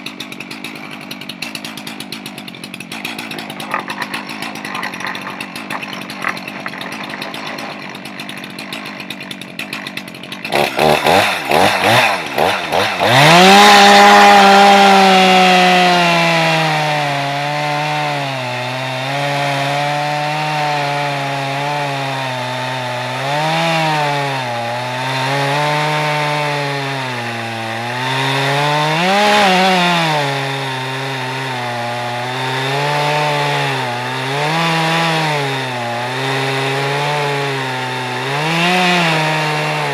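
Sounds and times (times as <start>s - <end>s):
chainsaw ripping through log: 0.0s - 39.9s.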